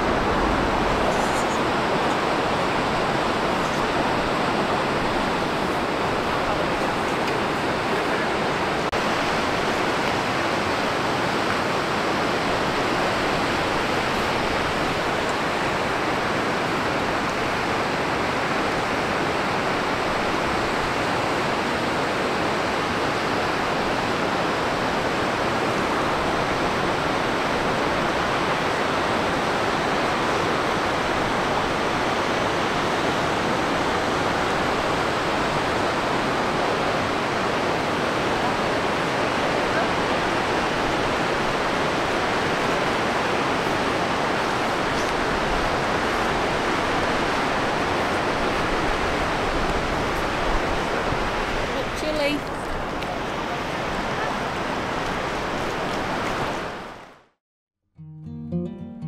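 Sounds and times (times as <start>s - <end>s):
waterfall rushing: 0.0s - 57.1s.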